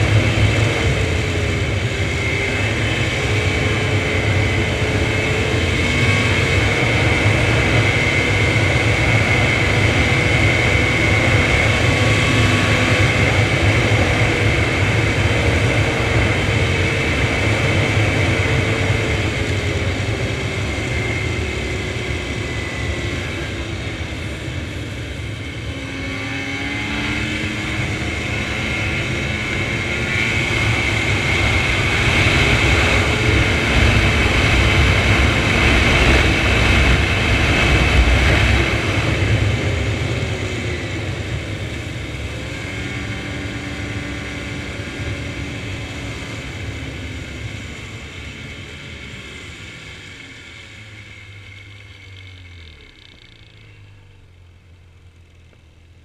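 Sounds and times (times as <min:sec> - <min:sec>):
snowmobile engine: 0:00.0 - 0:56.0.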